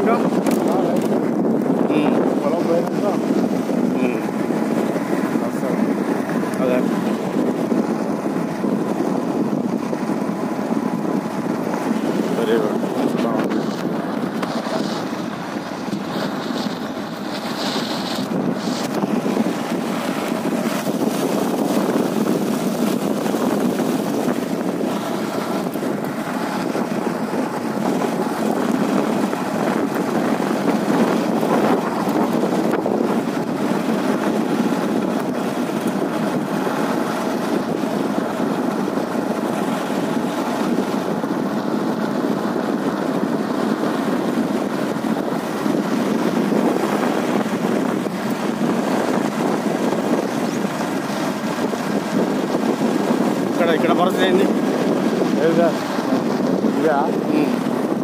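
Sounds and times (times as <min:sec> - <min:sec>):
tyres on dirt road: 0:00.0 - 0:58.0
vehicle engine: 0:00.0 - 0:58.0
wind buffeting microphone: 0:00.0 - 0:58.0.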